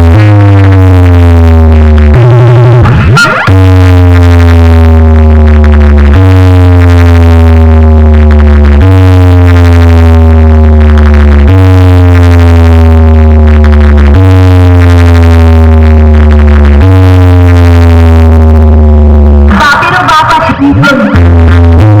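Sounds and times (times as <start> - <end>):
bass-heavy electronic music: 0.0 - 22.0.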